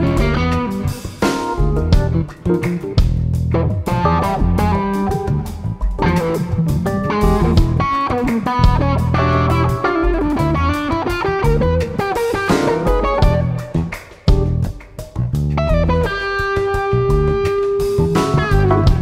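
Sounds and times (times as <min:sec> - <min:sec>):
bass guitar: 0:00.0 - 0:19.0
drum kit: 0:00.0 - 0:19.0
electric guitar lead: 0:00.0 - 0:19.0
keyboards: 0:00.0 - 0:19.0.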